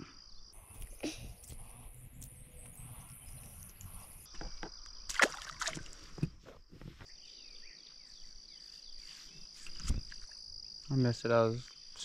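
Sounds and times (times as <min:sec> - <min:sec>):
crickets trilling: 0:00.0 - 0:06.2, 0:07.1 - 0:12.0.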